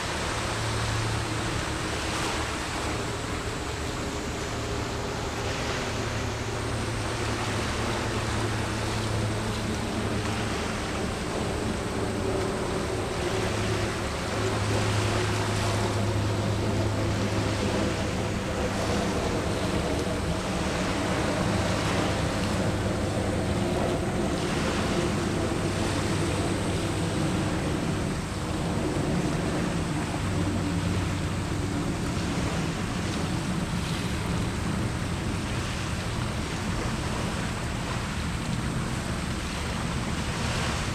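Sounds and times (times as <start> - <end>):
ship engines droning: 0.0 - 40.9
small waves washing on shore: 0.0 - 40.9.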